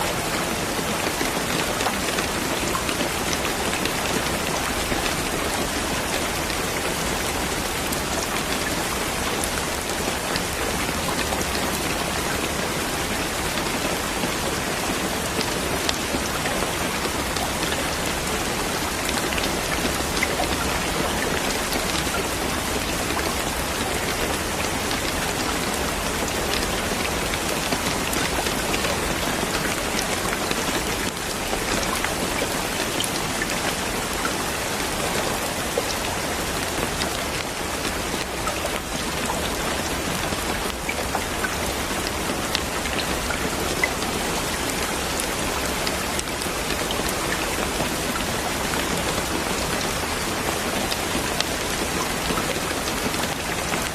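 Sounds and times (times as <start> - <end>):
steady rain patter: 0.0 - 53.9.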